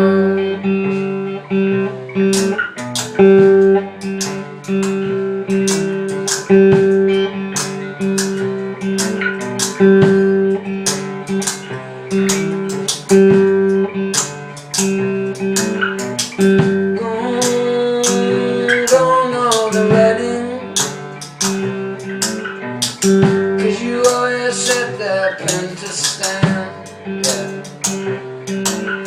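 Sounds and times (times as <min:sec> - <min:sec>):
guitar plucking chords: 0:00.0 - 0:29.0.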